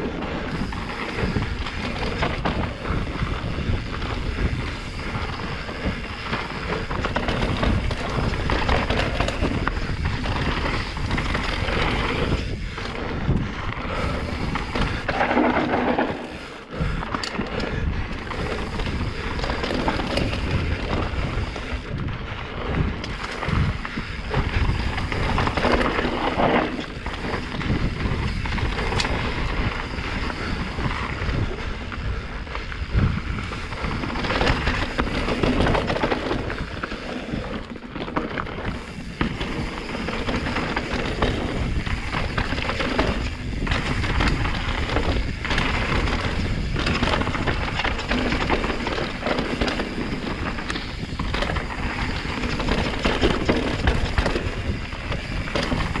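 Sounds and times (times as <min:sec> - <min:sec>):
bike frame rattling: 0:00.0 - 0:56.0
wind on microphone: 0:00.0 - 0:56.0.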